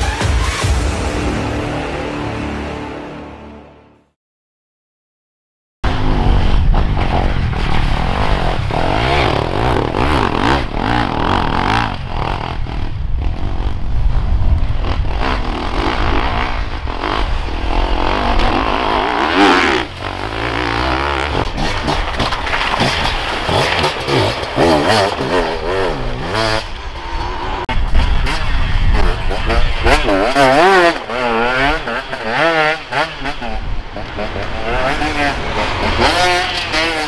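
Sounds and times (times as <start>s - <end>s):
dirt bike engines revving: 5.9s - 37.0s.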